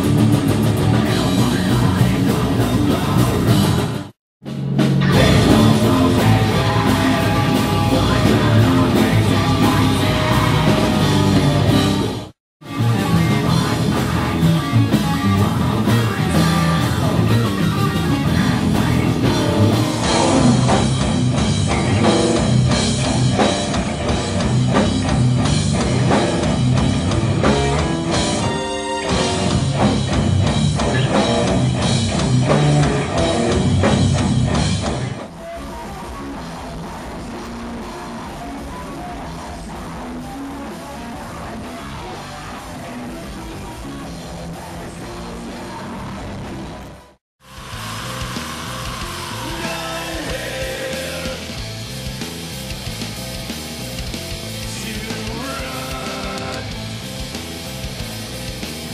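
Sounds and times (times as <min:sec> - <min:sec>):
metal band playing live: 0:00.0 - 0:58.9.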